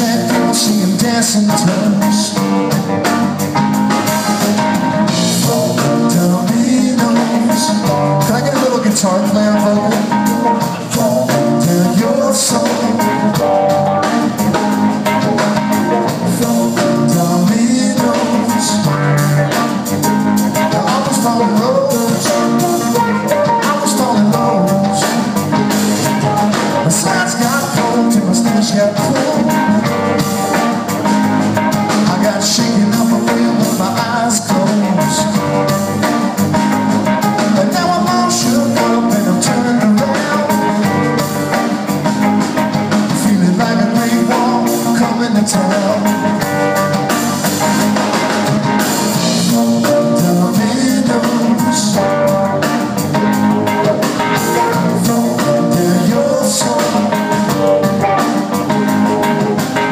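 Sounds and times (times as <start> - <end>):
bass guitar: 0.0 - 59.9
drum kit beat: 0.0 - 59.9
electric guitar: 0.0 - 59.9
keyboards: 0.0 - 59.9.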